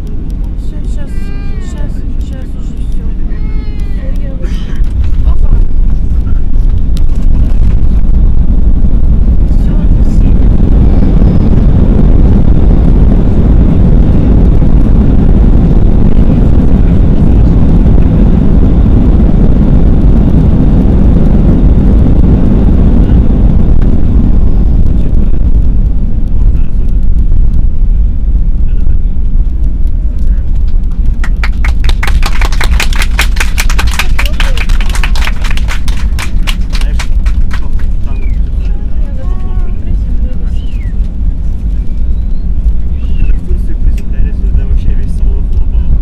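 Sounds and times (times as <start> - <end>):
aircraft engines and wheels roaring: 0.0 - 46.0.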